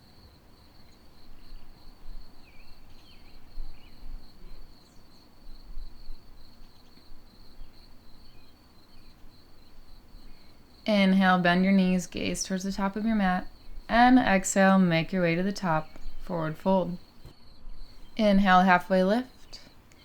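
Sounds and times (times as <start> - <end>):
crickets trilling: 0.0 - 19.9.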